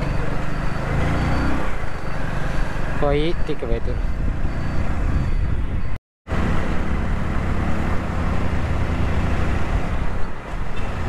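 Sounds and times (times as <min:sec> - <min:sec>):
road and traffic rumble: 0:00.0 - 0:11.0.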